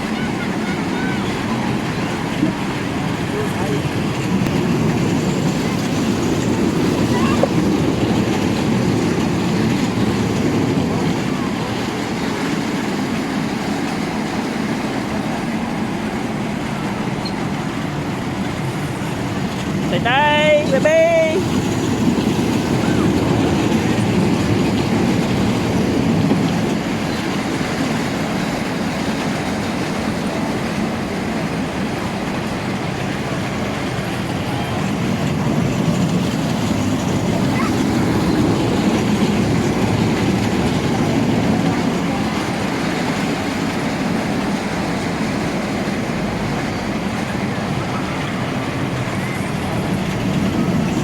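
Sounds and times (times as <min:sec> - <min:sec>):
train wheels rumbling: 0:00.0 - 0:51.0.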